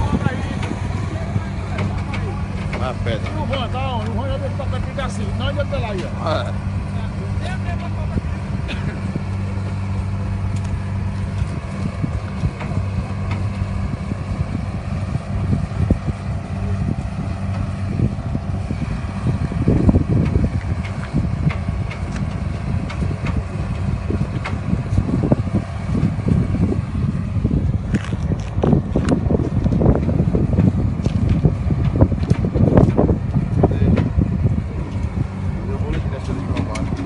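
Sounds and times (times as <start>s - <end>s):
diesel engine idling: 0.0s - 37.0s
wind gusts on microphone: 0.0s - 37.0s.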